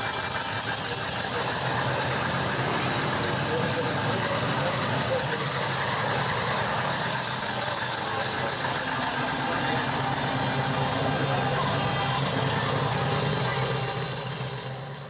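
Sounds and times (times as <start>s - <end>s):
car engine idling: 0.0s - 15.0s
steady high hiss: 0.0s - 15.0s.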